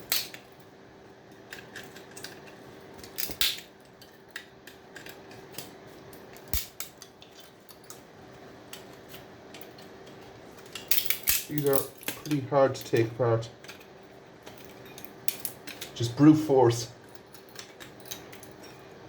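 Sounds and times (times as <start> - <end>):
faint steady hum: 0.0 - 19.0
tools and metal parts clinking: 1.3 - 8.0, 8.7 - 16.1, 17.0 - 19.0.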